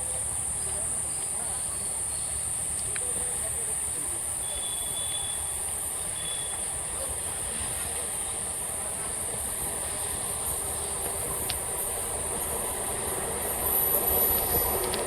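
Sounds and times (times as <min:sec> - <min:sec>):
train running with low rumble: 0:00.0 - 0:15.0.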